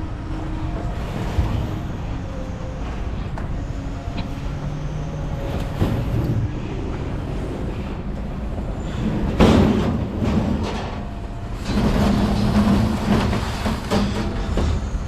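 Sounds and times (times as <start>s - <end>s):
vehicle engine rumbling: 0.0s - 14.4s.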